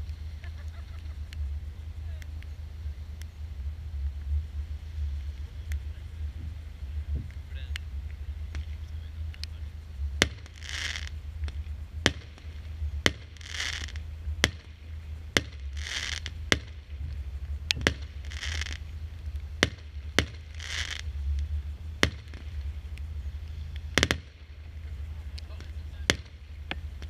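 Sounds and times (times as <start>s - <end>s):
firework hissing whoosh: 0.0s - 27.0s
firework sharp cracks: 0.0s - 27.0s.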